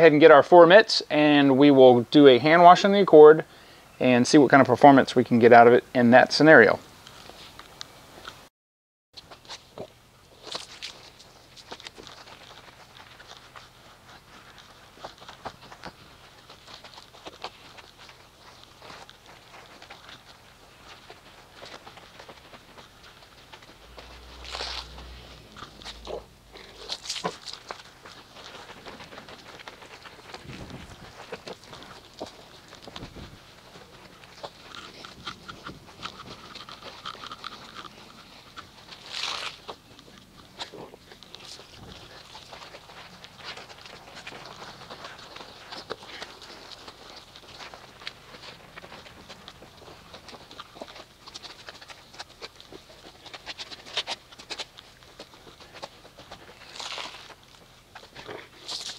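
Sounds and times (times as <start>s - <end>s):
footsteps on wet pavement: 10.5s - 37.3s, 38.1s - 58.9s.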